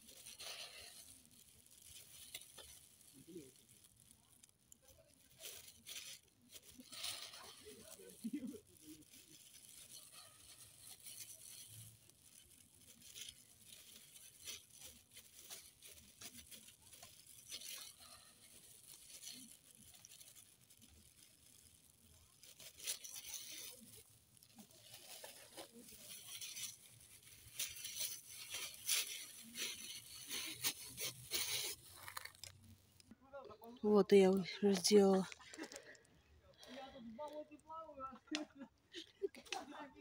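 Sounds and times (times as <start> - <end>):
plastic bag and gloves crinkling: 0.0 - 40.0.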